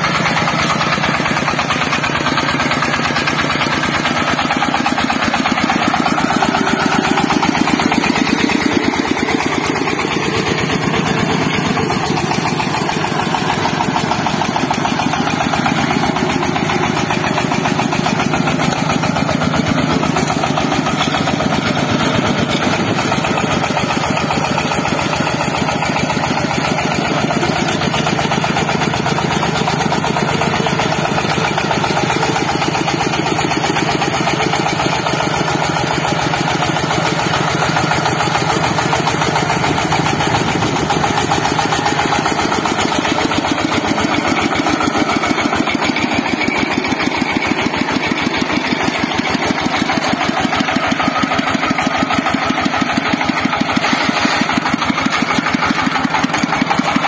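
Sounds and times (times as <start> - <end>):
walking tractor diesel engine running: 0.0 - 57.0.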